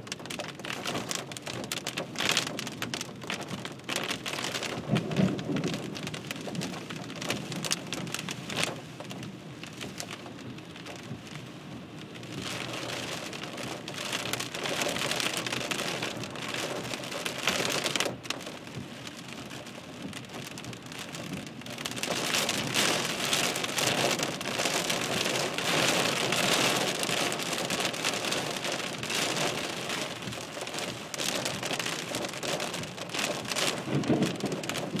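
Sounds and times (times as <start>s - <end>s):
heavy rain drumming on car: 0.0s - 35.0s.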